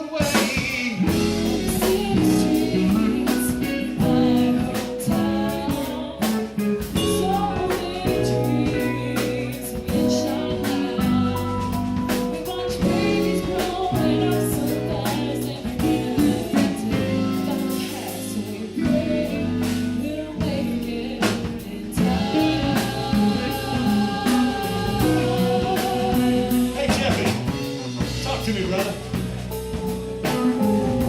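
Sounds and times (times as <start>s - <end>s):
person singing: 0.0s - 28.1s
funk band playing: 0.0s - 31.0s.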